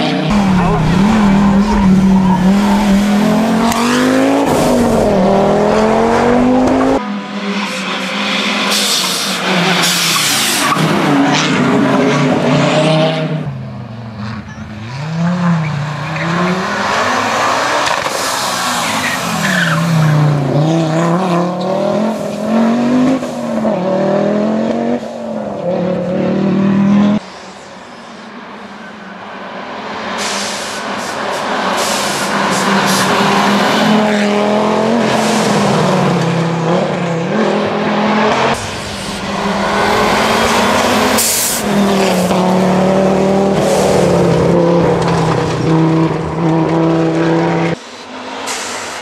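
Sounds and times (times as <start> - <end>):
rally car engine revving: 0.0 - 27.2, 32.4 - 49.0.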